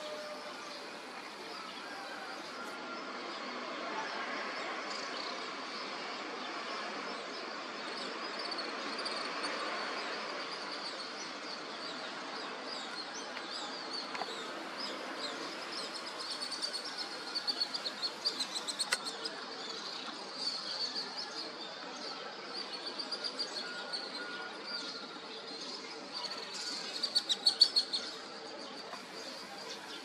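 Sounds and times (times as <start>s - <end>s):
small birds chirping and twittering: 4.9s - 30.0s.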